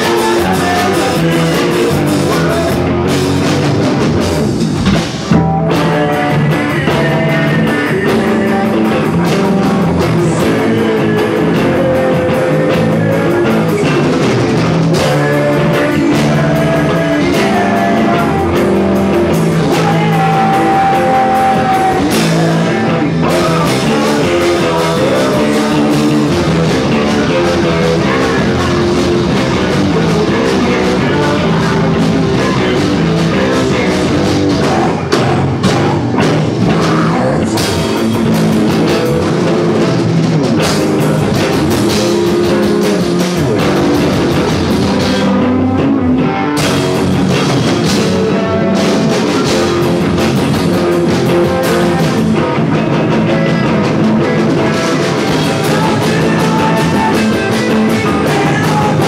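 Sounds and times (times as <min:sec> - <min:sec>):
person singing: 0:00.0 - 0:03.4, 0:05.3 - 0:59.0
drum kit: 0:00.0 - 0:59.0
guitar: 0:00.0 - 0:59.0.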